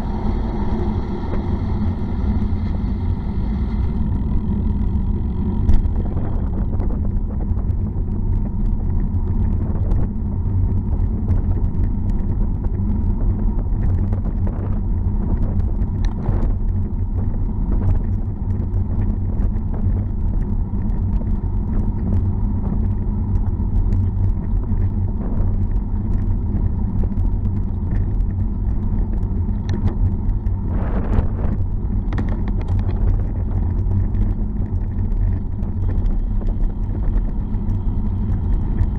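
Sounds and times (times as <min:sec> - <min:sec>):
wind buffeting microphone: 0:00.0 - 0:38.9
tyre noise on tarmac: 0:03.9 - 0:38.9
faint clicks and knocks: 0:04.6 - 0:38.9.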